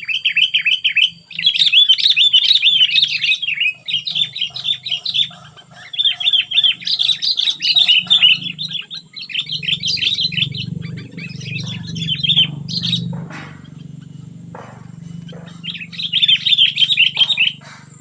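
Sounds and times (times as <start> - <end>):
bulbul chirping song: 0.0 - 18.0
low steady hum: 1.2 - 18.0.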